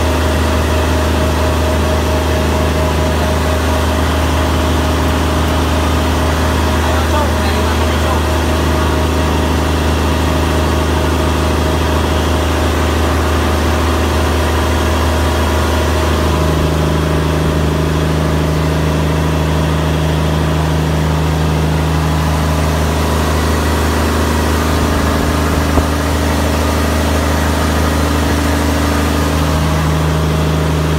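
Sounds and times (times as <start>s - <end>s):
diesel engine droning: 0.0s - 30.9s
higher steady hum: 0.0s - 30.9s.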